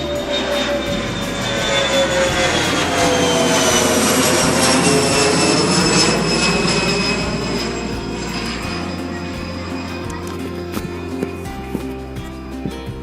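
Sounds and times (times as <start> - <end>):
jet engines roaring: 0.0 - 12.8.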